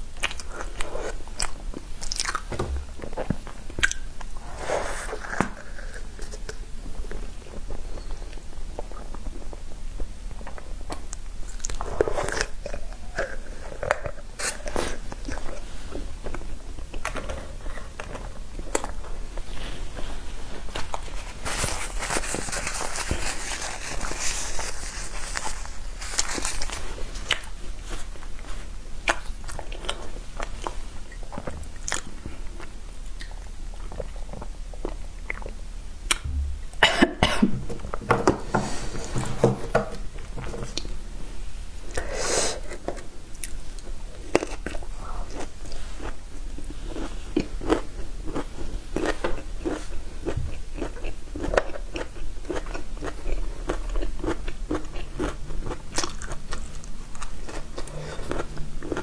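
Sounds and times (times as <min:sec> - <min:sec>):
person chewing crunchy food: 0:00.0 - 0:36.5, 0:41.9 - 0:59.0.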